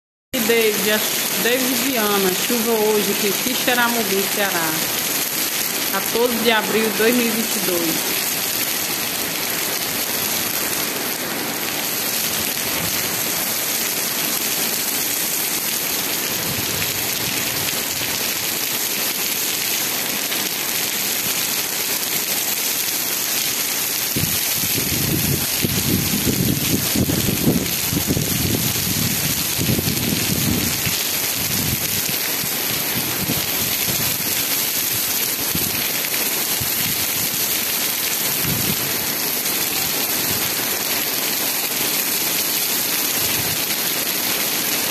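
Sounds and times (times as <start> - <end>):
rain on cobblestone street: 0.4 - 44.9.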